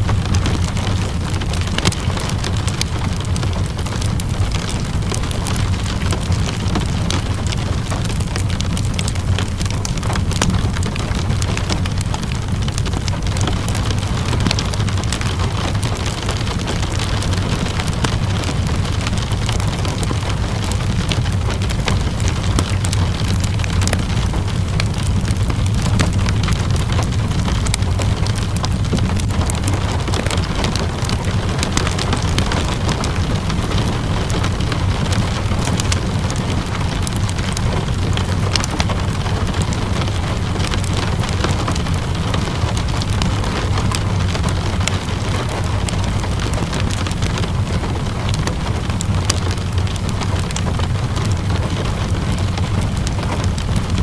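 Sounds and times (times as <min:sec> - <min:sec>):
low rumble: 0:00.0 - 0:54.0
rain falling: 0:00.0 - 0:54.0
wood fire crackling: 0:00.0 - 0:54.0.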